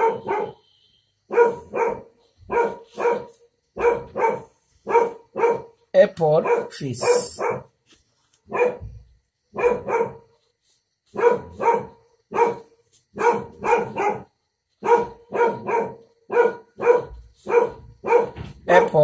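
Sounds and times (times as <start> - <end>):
dog barking: 0.0 - 7.8, 8.4 - 10.4, 11.1 - 19.0.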